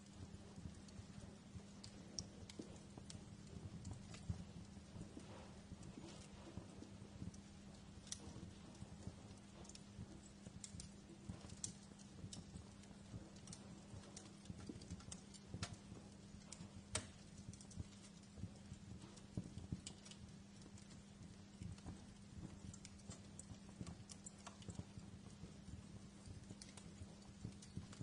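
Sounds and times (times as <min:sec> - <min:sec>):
steady low hum: 0:00.0 - 0:28.0
wood fire crackling: 0:00.0 - 0:28.0.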